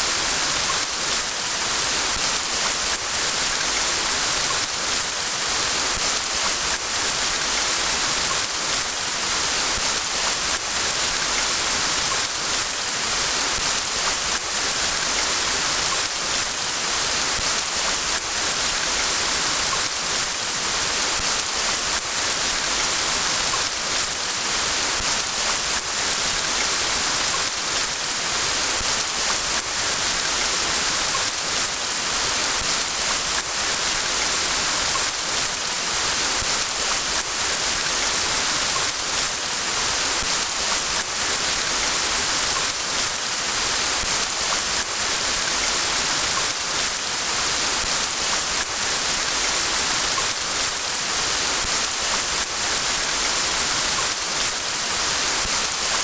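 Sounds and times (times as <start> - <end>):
rain falling in a forest: 0.0 - 56.0.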